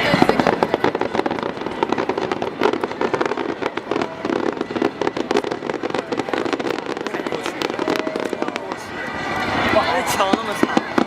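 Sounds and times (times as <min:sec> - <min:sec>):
fireworks cracking and popping: 0:00.0 - 0:11.0.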